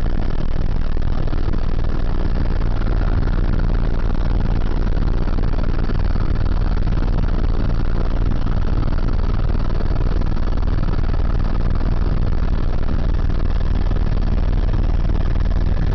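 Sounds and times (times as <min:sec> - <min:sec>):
helicopter engine and rotor drone: 0:00.0 - 0:15.9.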